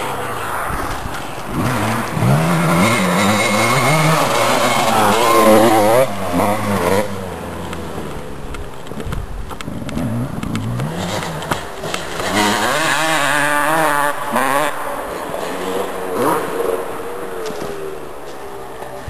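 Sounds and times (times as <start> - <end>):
motocross bike engines revving: 0.0 - 8.8, 9.6 - 19.0.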